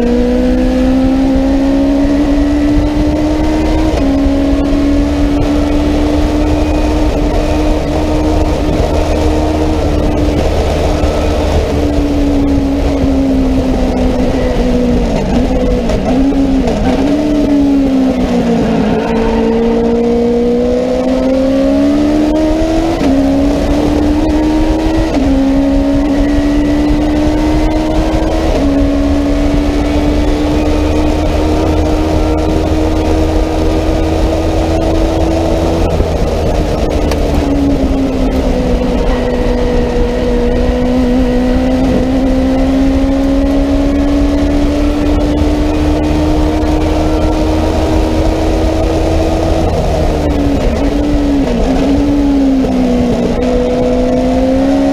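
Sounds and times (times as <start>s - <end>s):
race car engine under load: 0.0s - 54.9s.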